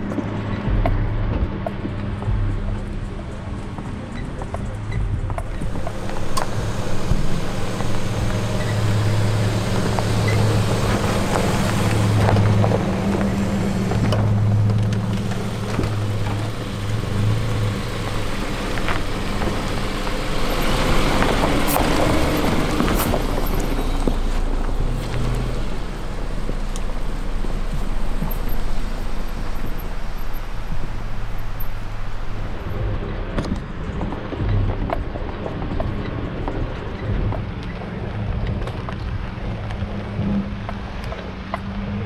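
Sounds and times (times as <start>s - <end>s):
low engine drone: 0.0s - 42.0s
tyres crunching over gravel: 2.2s - 41.6s.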